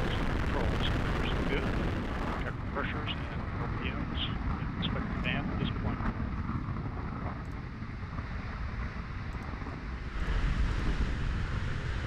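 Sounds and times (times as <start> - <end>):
rocket engine rumble: 0.0 - 12.0.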